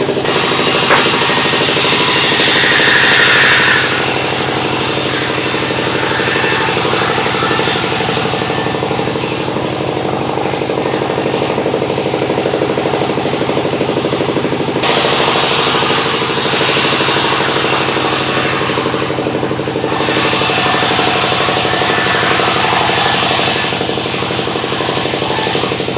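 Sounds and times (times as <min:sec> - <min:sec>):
sawmill engine: 0:00.0 - 0:25.9
saw blade hissing in wood: 0:00.2 - 0:19.2, 0:19.8 - 0:25.8.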